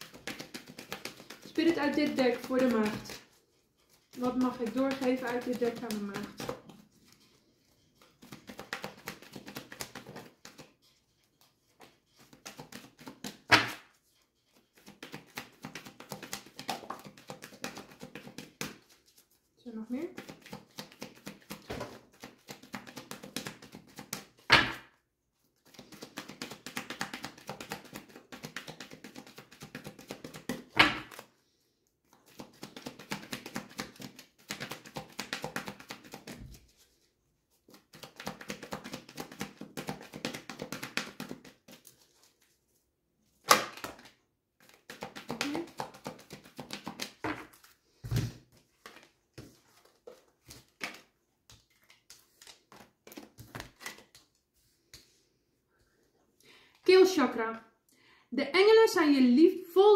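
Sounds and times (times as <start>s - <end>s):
cards being shuffled: 0.0s - 19.4s, 20.1s - 24.8s, 25.5s - 31.3s, 32.1s - 42.6s, 43.3s - 55.3s.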